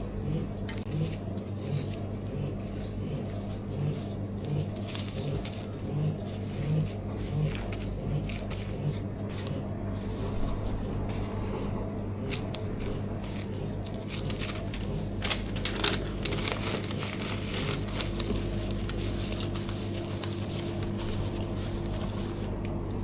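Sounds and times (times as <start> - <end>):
steady machine hum: 0.0 - 23.0
wrapping crinkling and rustling: 0.5 - 23.0.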